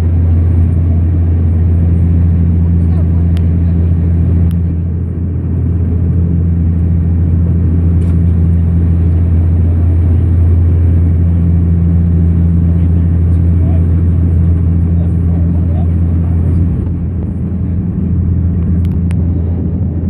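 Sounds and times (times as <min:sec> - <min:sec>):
airflow rush: 0:00.0 - 0:20.0
turboprop engine drone: 0:00.0 - 0:20.0.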